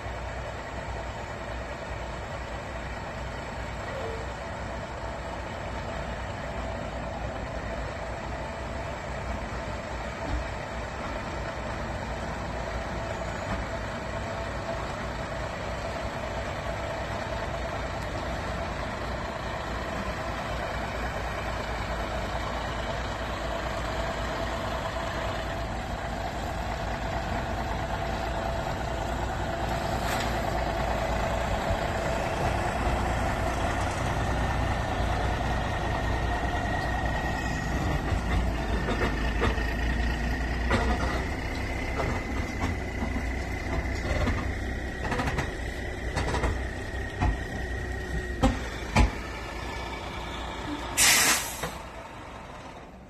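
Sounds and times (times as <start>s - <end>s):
diesel truck engine rumbling: 0.0s - 53.0s.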